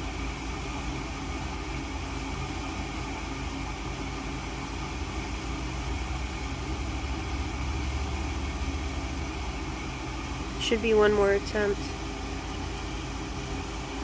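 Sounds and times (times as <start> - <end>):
gas furnace motor hum: 0.0 - 14.0.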